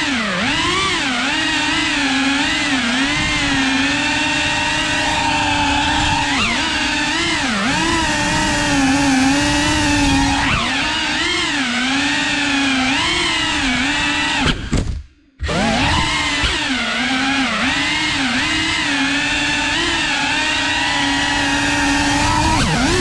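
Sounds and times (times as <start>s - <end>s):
drone propellers whining: 0.0s - 14.8s, 15.4s - 23.0s.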